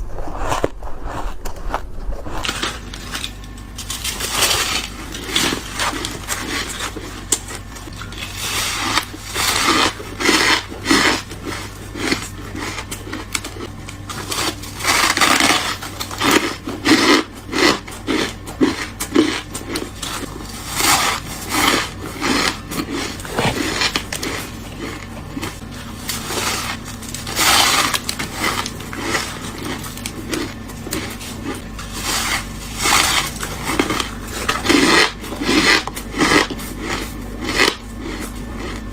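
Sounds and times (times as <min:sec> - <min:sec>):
crunchy bites into frost: 0:01.8 - 0:38.9.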